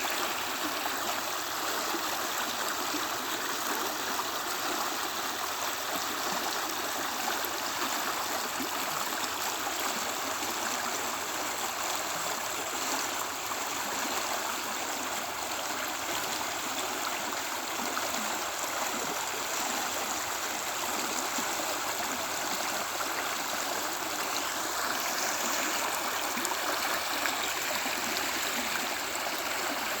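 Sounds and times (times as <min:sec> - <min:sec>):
creek flowing over rocks: 0:00.0 - 0:30.0.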